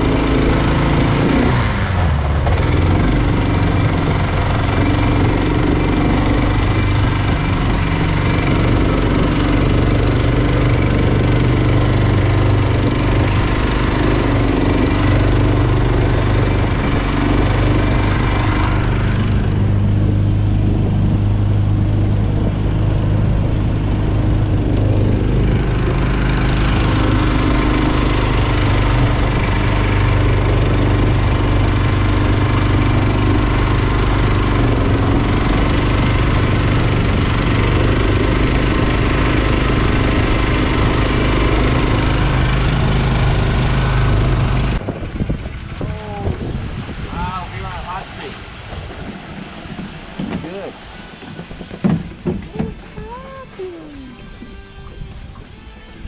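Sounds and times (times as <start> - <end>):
boat engine running steadily: 0.0 - 56.0.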